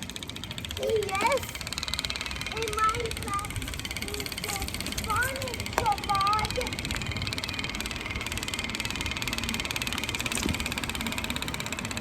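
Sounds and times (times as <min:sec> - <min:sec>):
bicycle rolling and rattling: 0:00.0 - 0:12.0.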